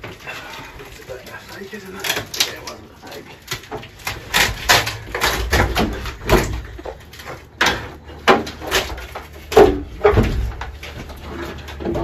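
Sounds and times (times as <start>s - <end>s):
plywood board ripping up: 1.9s - 12.0s.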